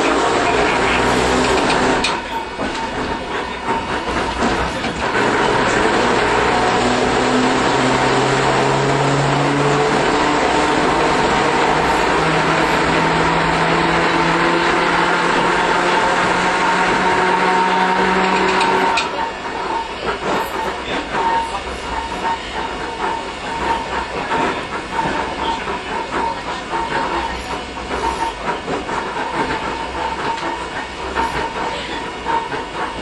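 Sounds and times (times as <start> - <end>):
streetcar wheels rumbling on rail: 0.0 - 33.0.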